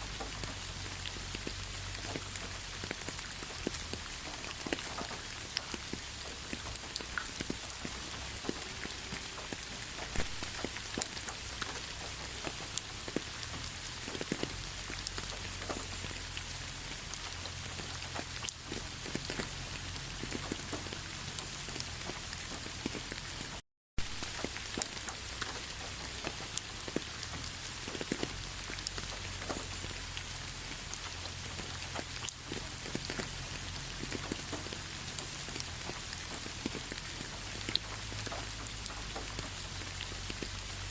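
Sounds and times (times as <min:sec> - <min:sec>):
rain falling: 0:00.0 - 0:40.9
raindrops tapping on a surface: 0:00.0 - 0:40.9.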